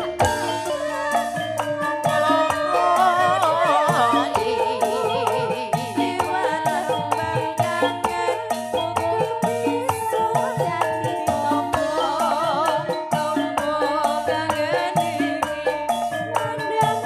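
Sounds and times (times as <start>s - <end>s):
drum and percussion strokes: 0.0s - 17.0s
live band lead melody: 0.0s - 17.0s.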